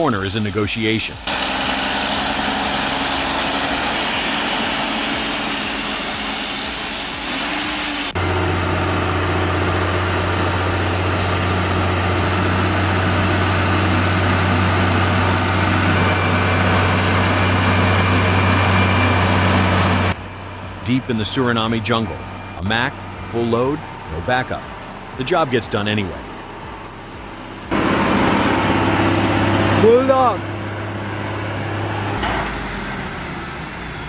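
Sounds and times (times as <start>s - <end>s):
truck engine labouring: 0.0s - 34.0s.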